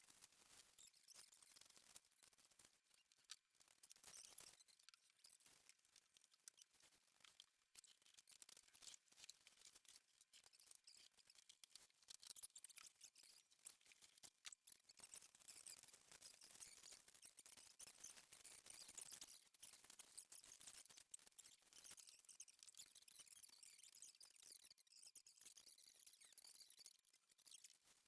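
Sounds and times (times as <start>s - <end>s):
faint irregular clicking and crackling: 0.0s - 28.0s.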